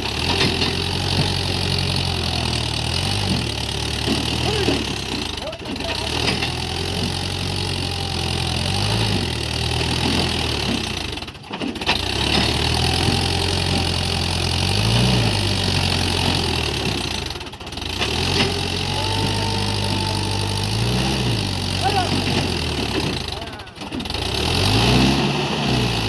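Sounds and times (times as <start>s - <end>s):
tractor diesel engine chugging: 0.0s - 26.0s.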